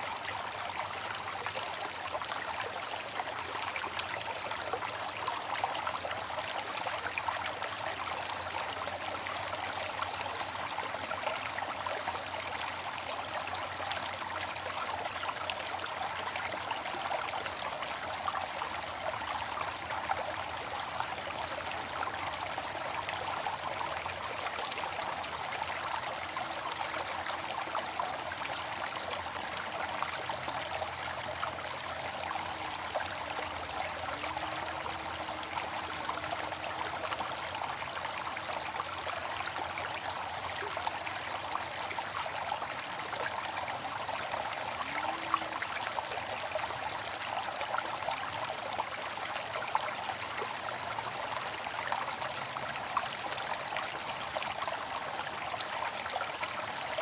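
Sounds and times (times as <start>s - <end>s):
water fountain splashing: 0.0s - 57.0s.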